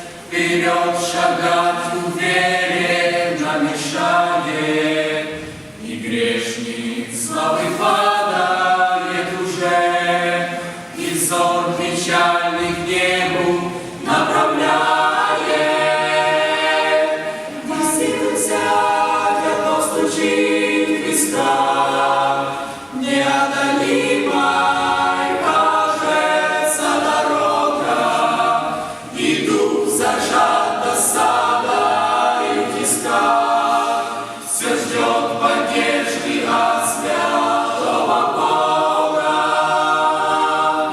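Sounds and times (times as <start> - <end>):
youth choir singing a cappella: 0.0 - 40.9.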